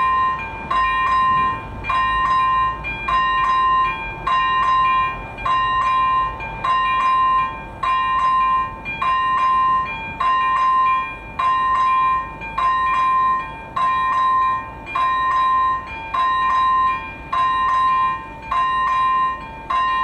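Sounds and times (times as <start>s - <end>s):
level crossing warning bell ringing: 0.0s - 20.0s.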